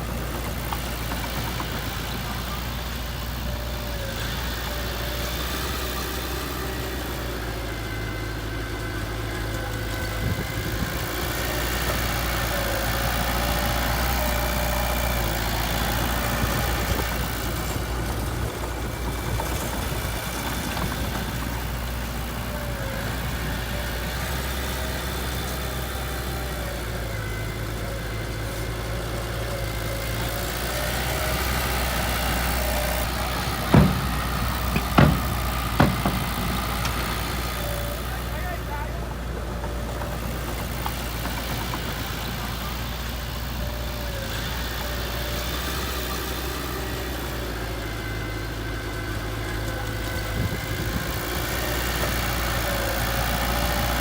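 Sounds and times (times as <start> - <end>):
heavy machine engine idling: 0.0 - 54.0.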